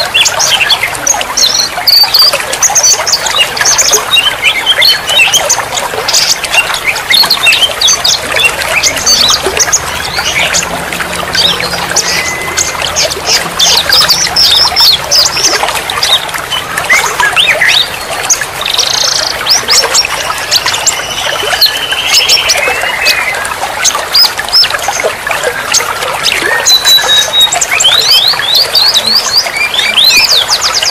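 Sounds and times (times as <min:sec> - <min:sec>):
songbirds chirping in chorus: 0:00.0 - 0:30.9
trickling water: 0:00.0 - 0:30.9.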